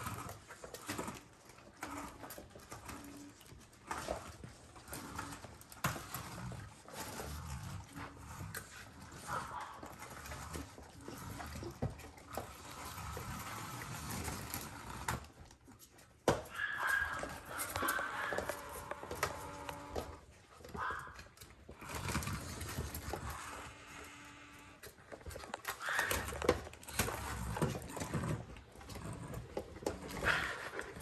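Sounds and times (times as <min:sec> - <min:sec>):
puppies pawing at plastic toy: 0:00.0 - 0:24.2, 0:24.8 - 0:31.0.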